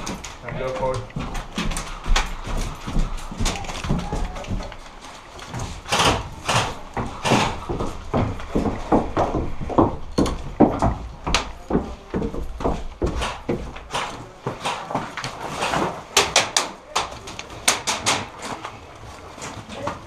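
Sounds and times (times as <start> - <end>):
footsteps on wooden stairs: 0.0 - 20.0.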